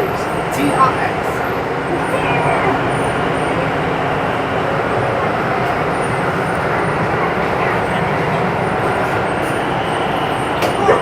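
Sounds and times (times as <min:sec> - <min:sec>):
metro train running: 0:00.0 - 0:11.0.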